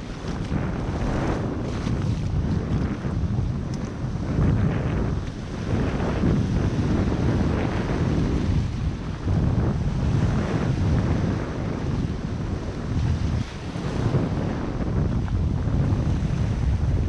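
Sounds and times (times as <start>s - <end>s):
surf breaking over reef: 0.0s - 17.0s
wind buffeting microphone: 0.0s - 17.0s.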